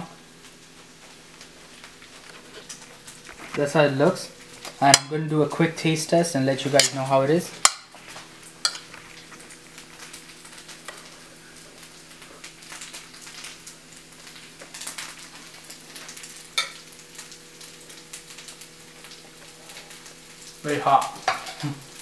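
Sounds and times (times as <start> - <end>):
fried rice sizzling: 0.0 - 22.0.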